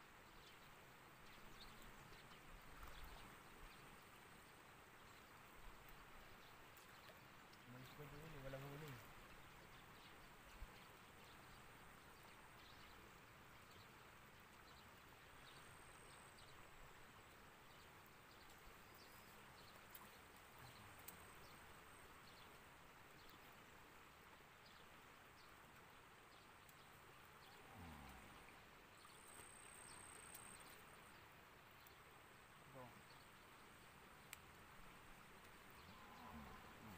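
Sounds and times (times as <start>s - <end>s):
faint open-air hiss: 0.0s - 36.9s.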